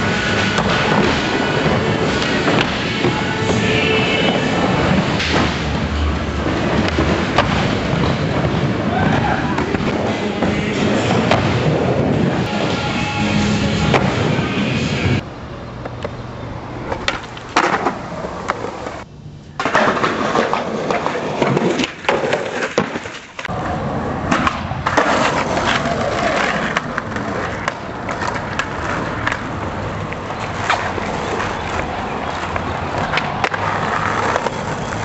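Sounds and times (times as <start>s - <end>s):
skateboard clacks: 0.0s - 15.2s, 16.8s - 35.0s
skateboard wheels rolling on concrete: 0.0s - 35.0s.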